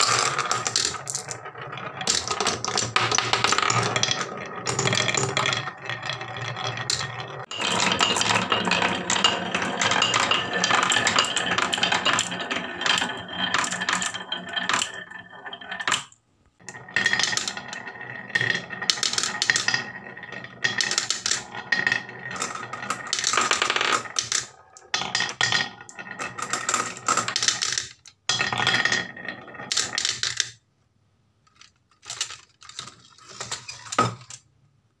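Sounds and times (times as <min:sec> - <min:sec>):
balls clattering down wooden run: 0:00.0 - 0:30.6.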